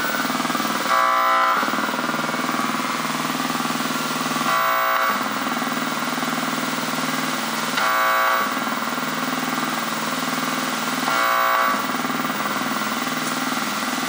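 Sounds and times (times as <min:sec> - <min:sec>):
buzzy synthesizer drone: 0:00.0 - 0:14.0.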